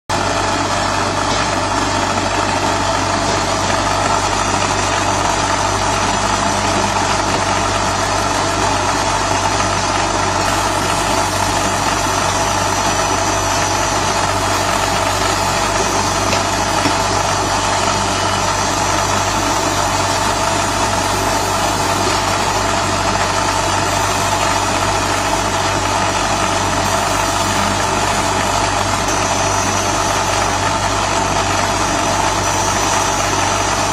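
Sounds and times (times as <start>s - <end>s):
laser marking machine humming: 0.1s - 33.9s.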